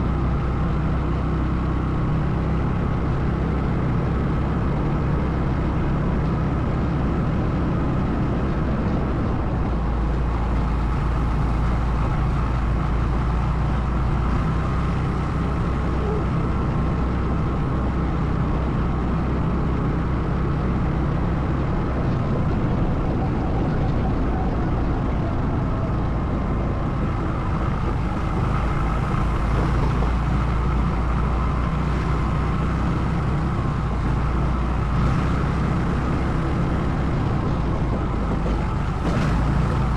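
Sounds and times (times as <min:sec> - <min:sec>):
atv engine droning: 0:00.0 - 0:39.9
road noise: 0:00.0 - 0:39.9.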